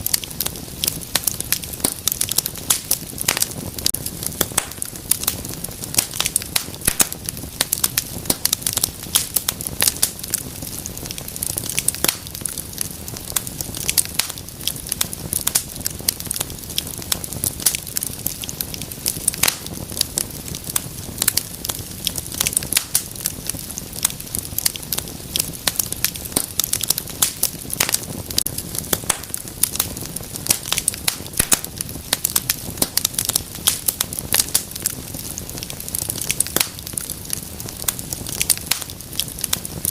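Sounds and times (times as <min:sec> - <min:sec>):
hiss of burning: 0:00.0 - 0:39.9
wood fire crackling and popping: 0:00.0 - 0:39.9.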